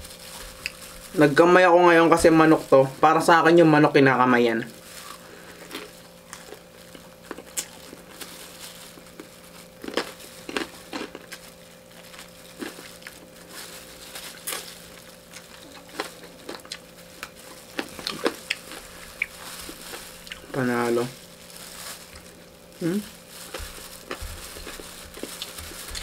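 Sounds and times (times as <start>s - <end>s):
crunchy chewing of fried chicken: 0.0s - 2.8s, 4.5s - 26.0s
faint steady hum: 0.0s - 26.0s
plastic glove crinkling: 0.0s - 26.0s.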